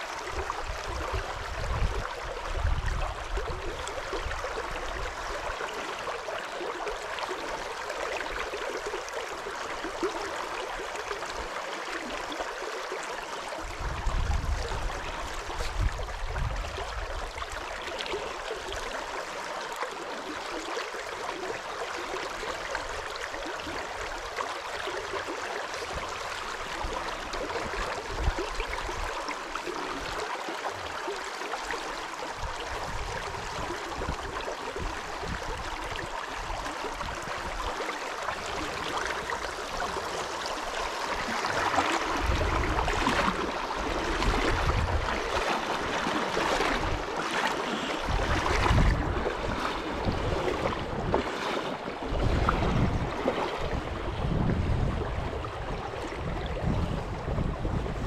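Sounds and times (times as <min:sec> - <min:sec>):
river water over rocks: 0:00.0 - 0:58.0.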